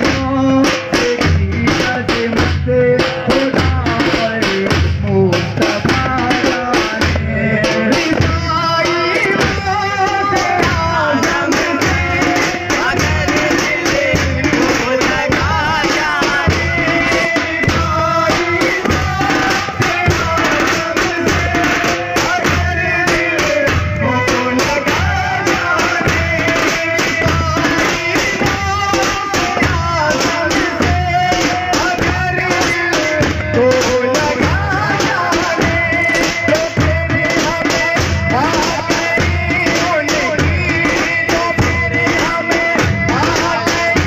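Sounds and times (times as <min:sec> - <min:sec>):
frame drums beaten in rhythm: 0:00.0 - 0:44.0
person singing: 0:00.0 - 0:44.0.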